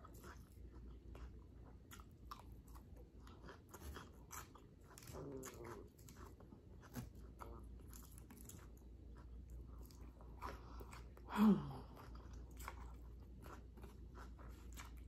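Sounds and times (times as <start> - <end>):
crisp chewing crunches: 0.0 - 15.0.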